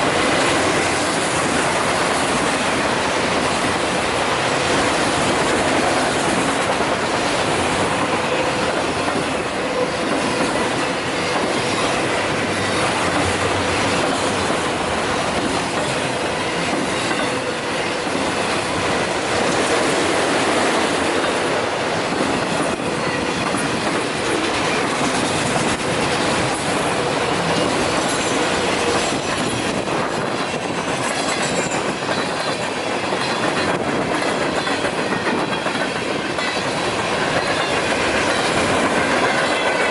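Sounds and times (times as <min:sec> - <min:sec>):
freight train cars rolling past: 0:00.0 - 0:39.9.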